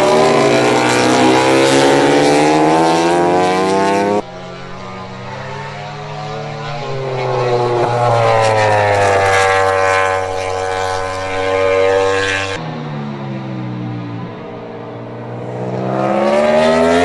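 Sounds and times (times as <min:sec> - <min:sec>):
racing motorcycle engine at high revs: 0:00.0 - 0:17.0.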